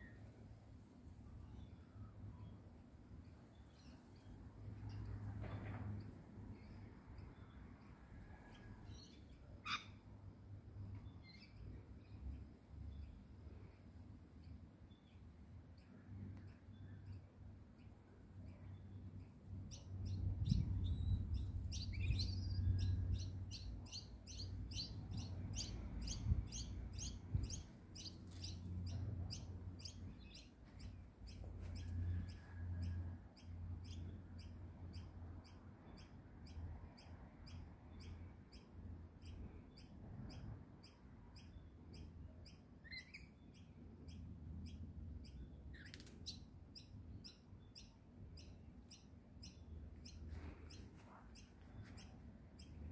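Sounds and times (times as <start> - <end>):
bird chirping: 3.2 - 10.1, 14.4 - 52.9.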